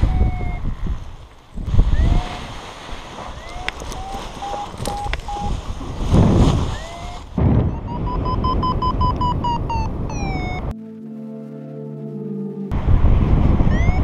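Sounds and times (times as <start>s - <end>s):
wind buffeting microphone: 0.0s - 10.7s, 12.7s - 14.0s.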